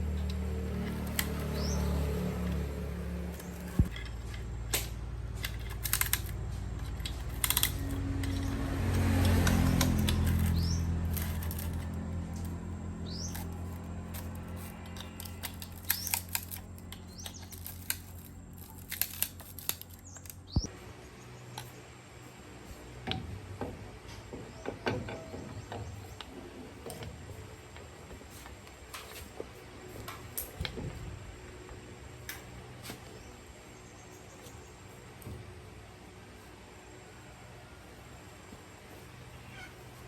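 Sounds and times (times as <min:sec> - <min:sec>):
low motor hum: 0:00.0 - 0:36.4.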